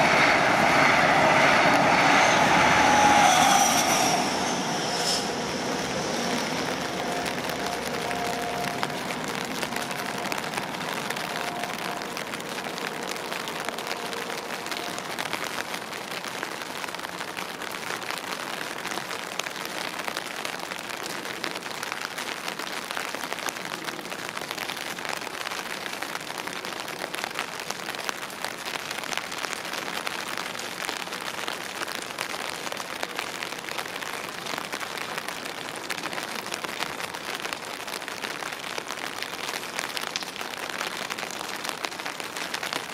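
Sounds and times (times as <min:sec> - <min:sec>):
steady rain: 0:00.0 - 0:42.9
rain drops ticking: 0:04.5 - 0:42.9.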